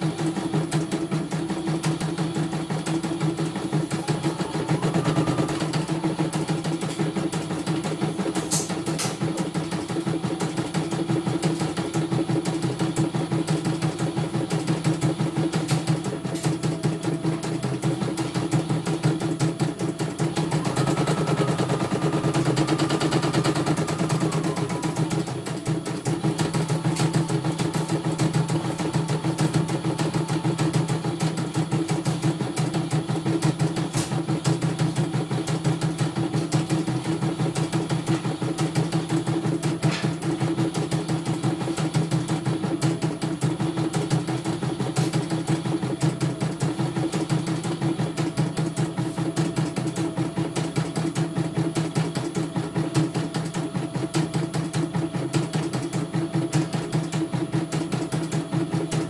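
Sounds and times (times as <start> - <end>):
embroidery machine stitching: 0.0 - 59.0.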